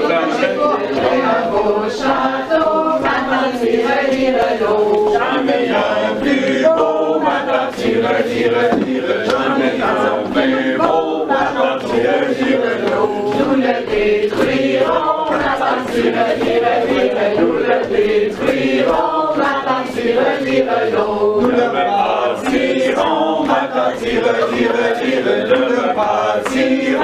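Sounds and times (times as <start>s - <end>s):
group singing unaccompanied: 0.0s - 27.0s.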